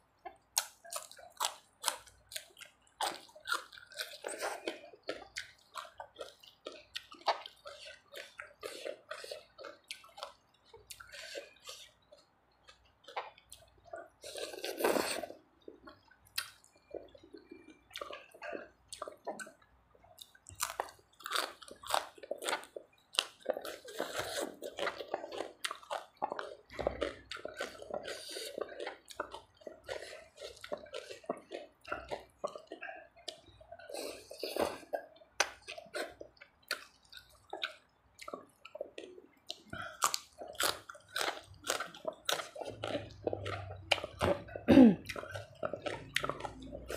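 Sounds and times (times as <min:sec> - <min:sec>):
food crunching: 0:00.2 - 0:46.9
wet chewing and lip smacking: 0:00.2 - 0:46.9.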